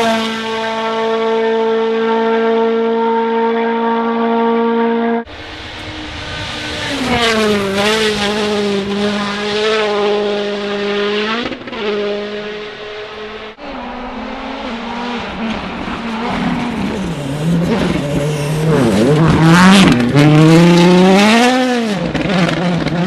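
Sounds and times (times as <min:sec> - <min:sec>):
rally car engine at high revs: 0:00.0 - 0:23.0.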